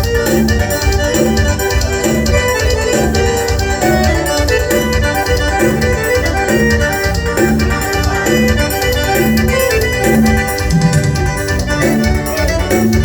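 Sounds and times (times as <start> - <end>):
band playing dance music: 0.0 - 13.0.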